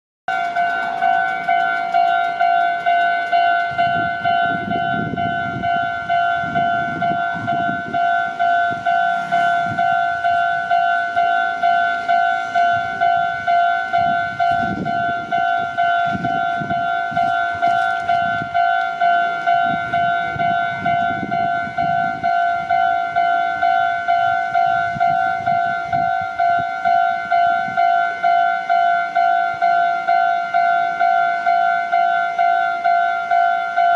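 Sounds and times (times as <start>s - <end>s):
level crossing warning bell: 0.3s - 33.9s.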